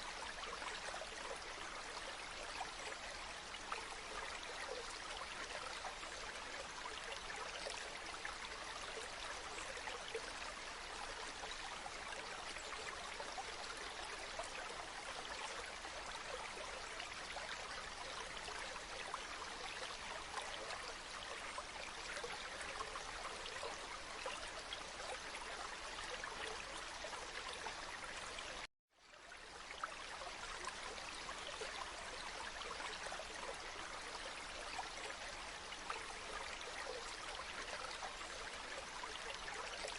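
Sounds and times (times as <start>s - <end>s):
babbling stream: 0.0s - 39.9s.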